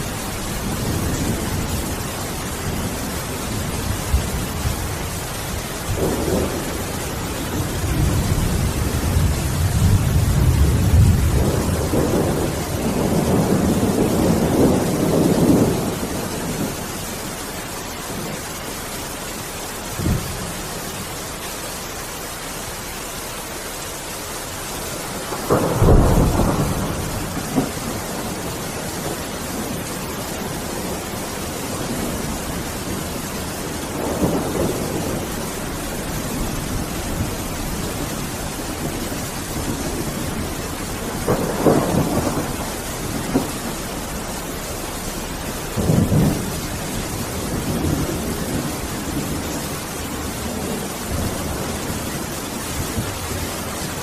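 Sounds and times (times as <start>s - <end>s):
thunder rumbling: 0.0s - 22.7s, 23.9s - 54.0s
heavy rain: 0.0s - 54.0s.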